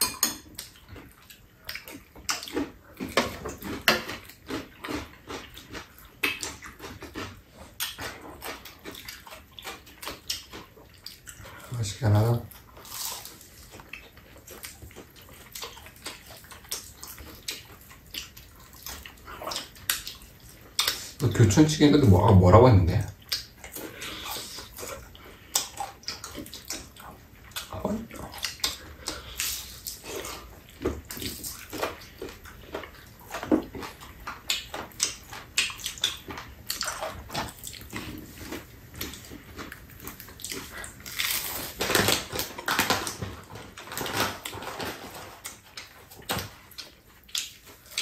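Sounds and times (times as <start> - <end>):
people chewing and lip smacking: 0.0 - 21.8, 22.9 - 48.0.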